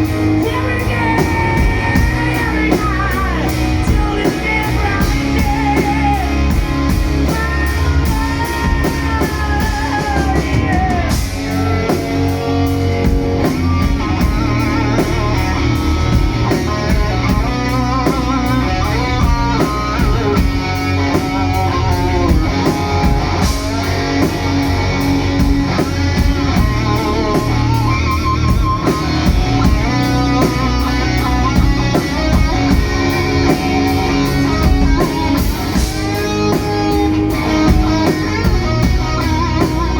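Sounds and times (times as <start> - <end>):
electric guitar lead with bent notes: 0.0 - 39.9
live rock band playing: 0.0 - 39.9.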